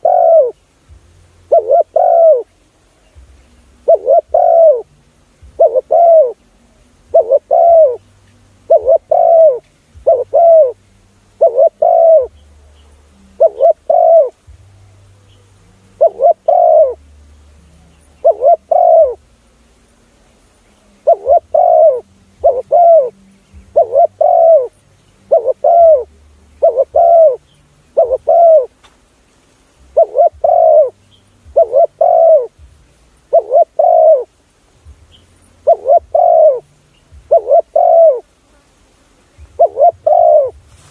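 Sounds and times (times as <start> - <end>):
dove cooing: 0.0 - 0.8, 1.4 - 2.6, 3.2 - 8.0, 8.6 - 14.5, 15.3 - 17.0, 17.7 - 19.3, 20.7 - 28.8, 29.8 - 34.4, 35.0 - 38.3, 39.4 - 40.7.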